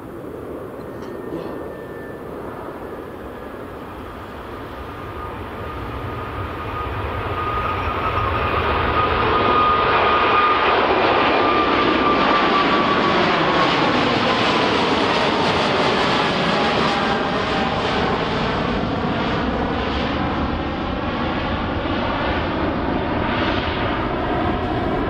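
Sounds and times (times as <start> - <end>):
airliner engines passing: 0.0 - 25.0.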